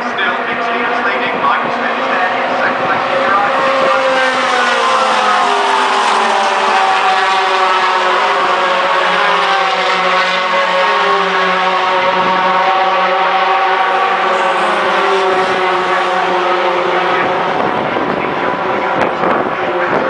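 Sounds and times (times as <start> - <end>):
racing truck engines: 0.0 - 20.0.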